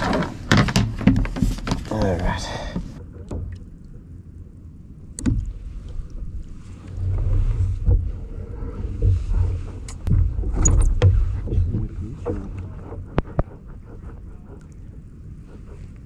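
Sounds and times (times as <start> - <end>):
water rumbling against kayak hull: 0.0 - 16.0.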